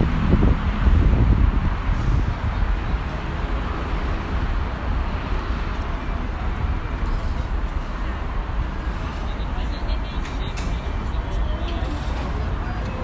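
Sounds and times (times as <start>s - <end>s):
city street traffic hum: 0.0s - 13.0s.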